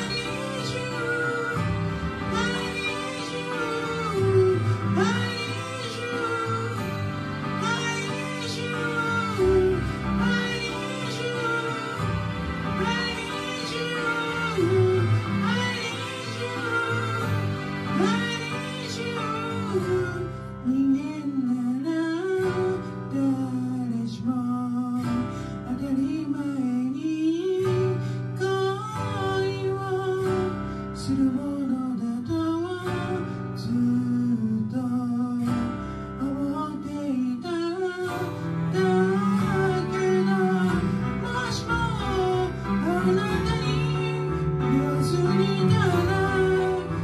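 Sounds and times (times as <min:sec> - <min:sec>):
instrumental backing track: 0:00.0 - 0:47.0
person singing karaoke ballad: 0:00.0 - 0:47.0.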